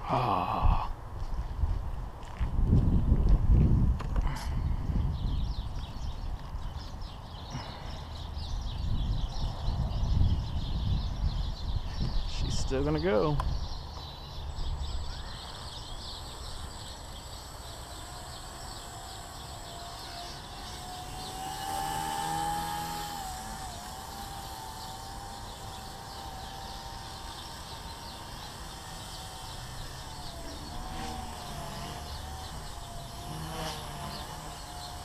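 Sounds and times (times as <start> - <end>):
rc helicopter rotor whine: 4.6 - 35.0.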